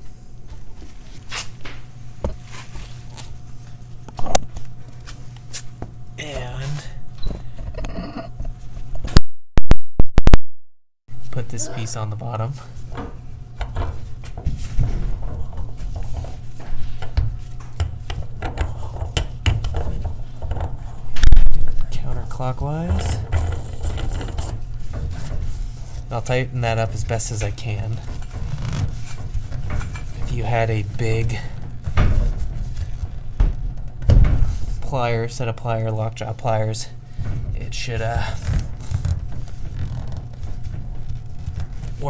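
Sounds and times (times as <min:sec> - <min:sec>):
steady low hum: 0:00.0 - 0:10.4, 0:11.1 - 0:42.0.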